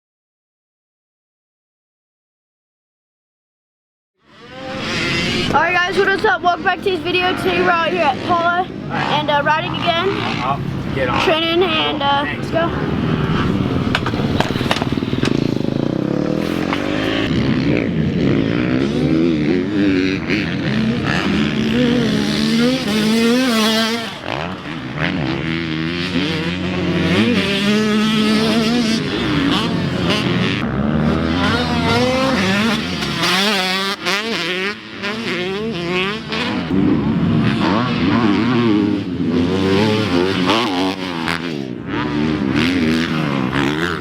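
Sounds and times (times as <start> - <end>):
dirt bike engines revving: 4.2 - 44.0.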